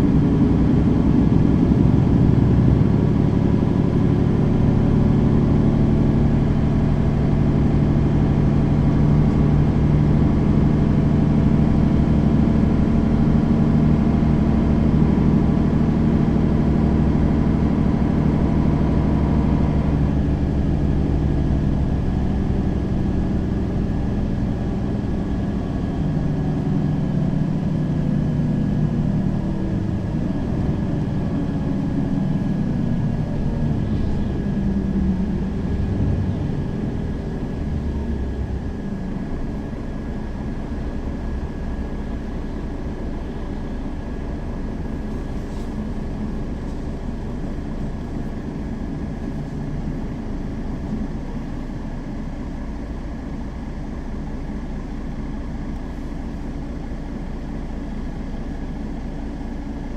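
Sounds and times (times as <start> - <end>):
city bus engine running: 0.0 - 59.9.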